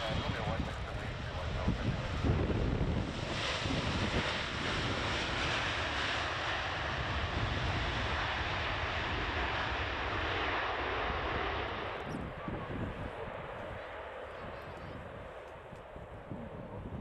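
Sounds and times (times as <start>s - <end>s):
jet engine rushing noise: 0.0s - 14.2s.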